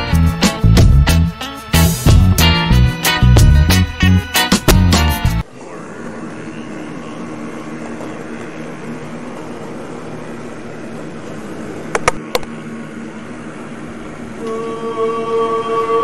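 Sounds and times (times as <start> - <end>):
room noise hiss and hum: 0.0 - 16.0.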